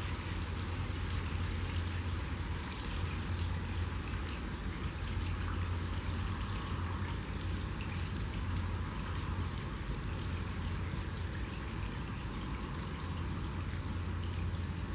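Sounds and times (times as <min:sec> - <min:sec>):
rain falling on water and concrete: 0:00.0 - 0:14.9.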